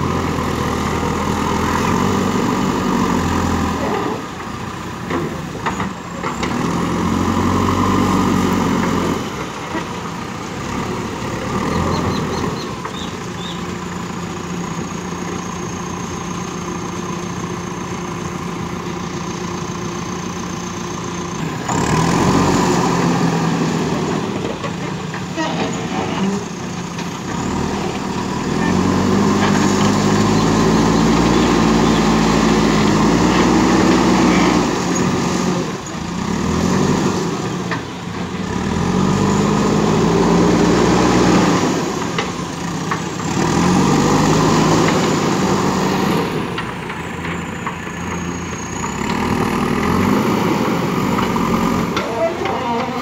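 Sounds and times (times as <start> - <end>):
diesel engine revving under load: 0.0 - 53.0.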